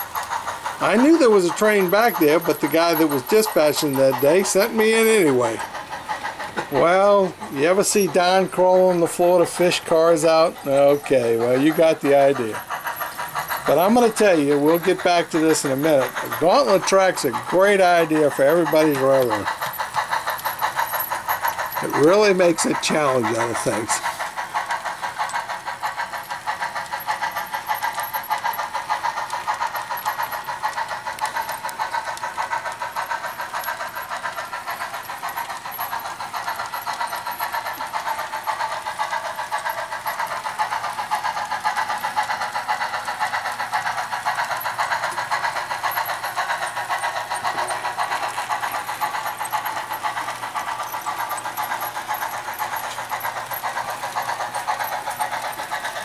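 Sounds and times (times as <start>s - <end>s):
model train whirring and clicking: 0.0s - 56.0s.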